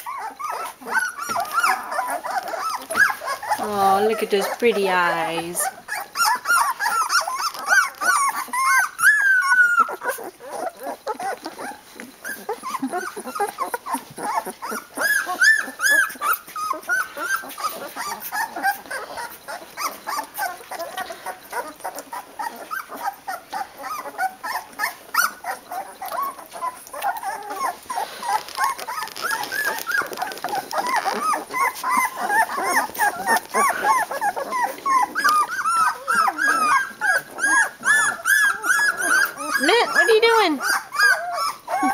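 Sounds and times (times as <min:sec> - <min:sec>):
puppies whimpering and squealing: 0:00.0 - 0:41.9.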